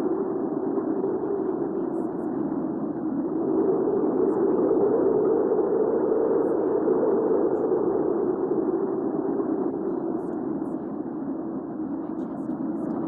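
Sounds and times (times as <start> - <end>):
low rushing wind: 0.0 - 13.0.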